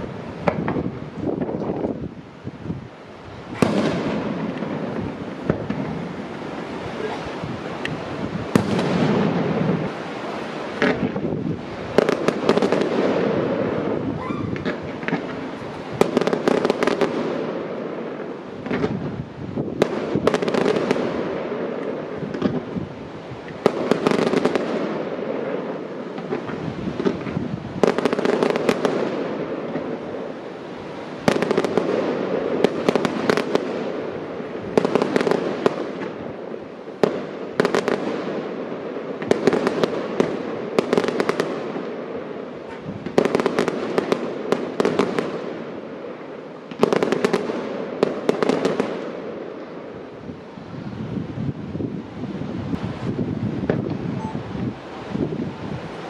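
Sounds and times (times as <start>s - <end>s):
fireworks bursting with sharp bangs: 0.0s - 56.0s.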